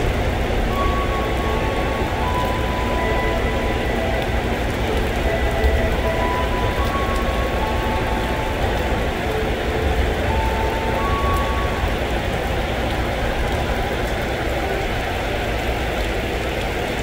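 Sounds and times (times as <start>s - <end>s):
electric train rumble: 0.0s - 17.0s
heavy rain: 0.0s - 17.0s.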